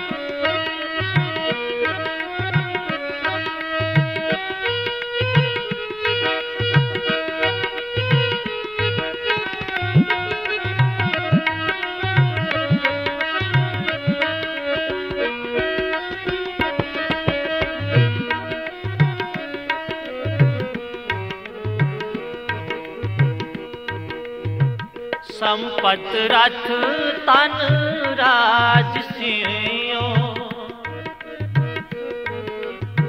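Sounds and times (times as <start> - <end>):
instrumental melody of held notes: 0.0 - 25.6, 26.6 - 33.0
tabla: 0.0 - 33.0.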